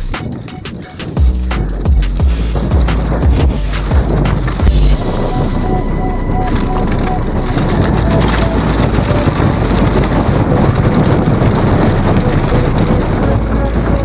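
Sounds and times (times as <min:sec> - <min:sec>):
wind rushing over microphone: 0:00.0 - 0:14.0
mountain bike rattling on dirt trail: 0:00.3 - 0:14.0.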